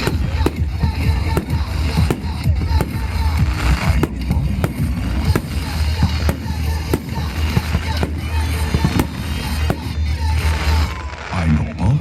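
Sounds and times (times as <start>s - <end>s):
fireworks bursting: 0.0s - 11.7s.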